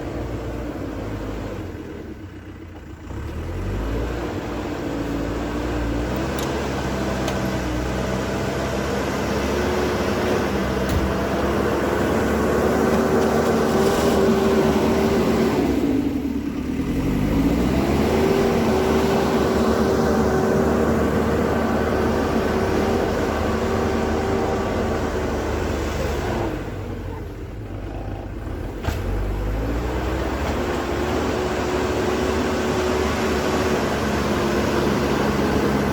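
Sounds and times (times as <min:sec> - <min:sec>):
diesel engine revving under load: 0:00.0 - 0:35.9.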